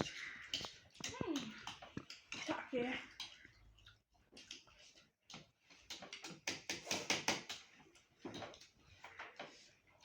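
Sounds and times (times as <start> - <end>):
eating clicks and smacks: 0.0 - 10.0.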